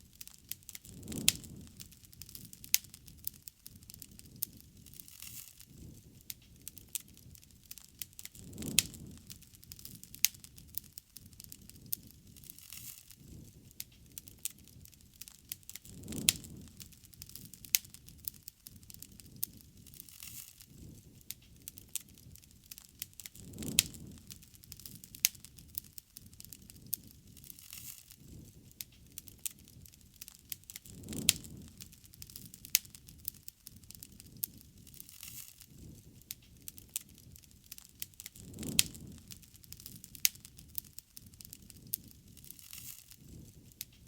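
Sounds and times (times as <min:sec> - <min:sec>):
bonfire crackling and popping: 0:00.0 - 0:44.0
flame whoosh: 0:00.0 - 0:44.0.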